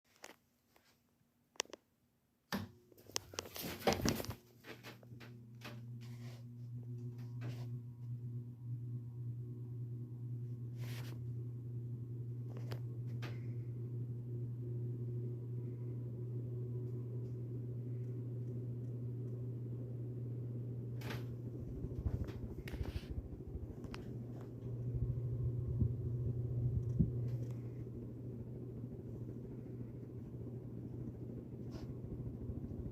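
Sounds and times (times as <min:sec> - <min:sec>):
ceiling fan motor humming: 0:02.5 - 0:32.9
rough low rumble: 0:05.2 - 0:32.9.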